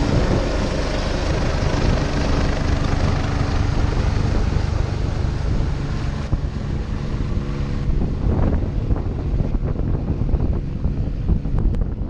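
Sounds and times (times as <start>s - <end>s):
helicopter drone: 0.0s - 12.0s
wind buffeting microphone: 0.0s - 12.0s.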